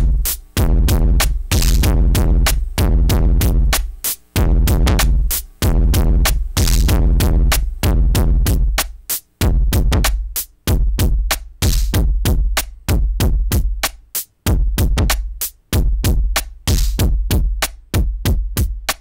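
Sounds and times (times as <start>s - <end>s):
distorted booming kick drum: 0.0s - 13.9s, 14.5s - 19.0s
rapid clicks and hi-hats: 0.0s - 19.0s.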